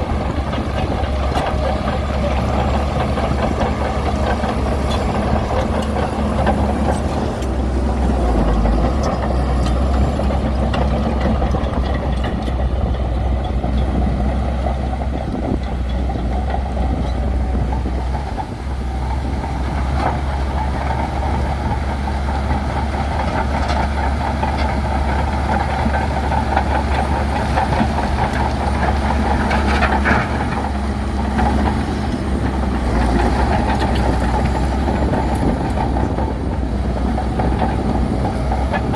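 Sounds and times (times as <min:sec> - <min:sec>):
diesel engine rumbling under load: 0:00.0 - 0:38.9.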